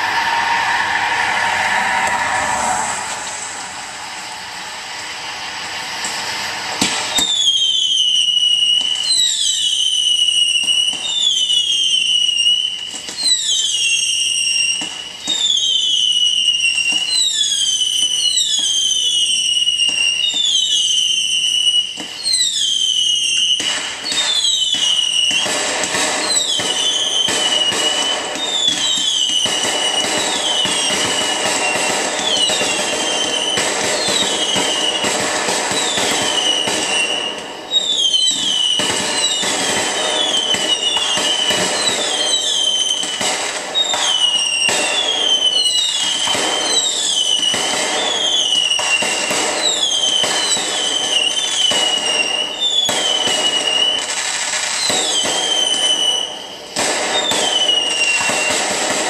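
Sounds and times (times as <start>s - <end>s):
fireworks hissing: 0.0s - 59.0s
whistling fireworks: 0.0s - 59.0s
fireworks popping: 1.3s - 59.0s.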